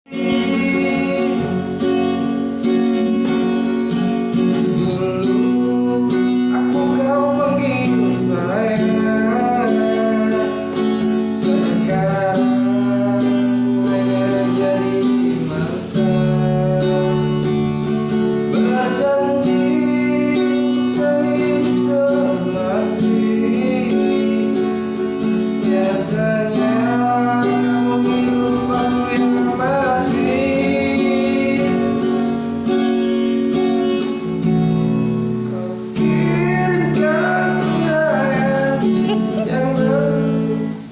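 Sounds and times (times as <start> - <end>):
person singing: 0.0 - 32.4, 35.4 - 40.9
strummed acoustic guitar: 0.0 - 40.9.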